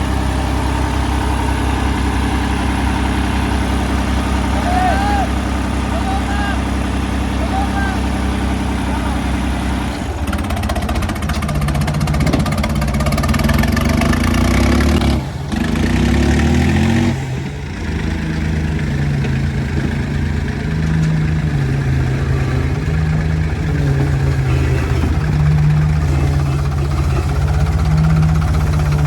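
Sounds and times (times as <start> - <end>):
diesel tractor engines under load: 0.0 - 29.0.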